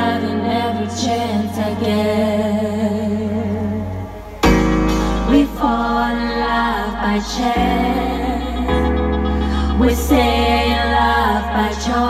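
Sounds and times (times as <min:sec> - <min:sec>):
woman singing into microphone: 0:00.0 - 0:04.3, 0:04.9 - 0:12.0.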